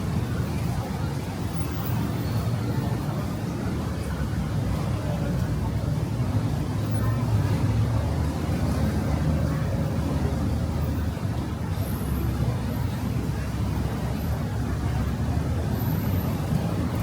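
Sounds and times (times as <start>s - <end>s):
heavy road traffic rumble: 0.0s - 17.0s.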